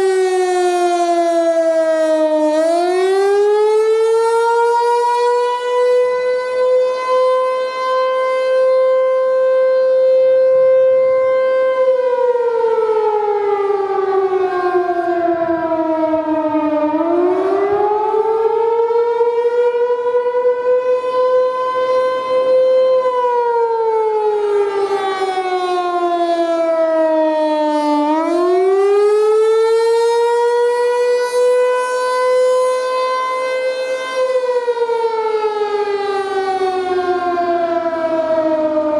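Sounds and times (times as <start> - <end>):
outdoor warning siren wail: 0.0 - 38.9.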